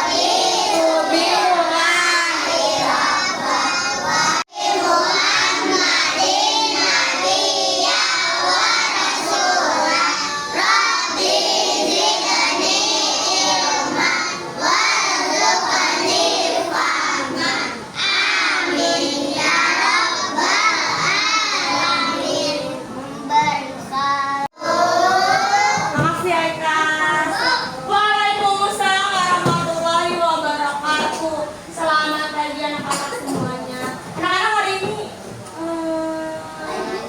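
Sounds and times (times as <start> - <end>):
children chanting a prayer: 0.0 - 30.2, 36.0 - 37.0.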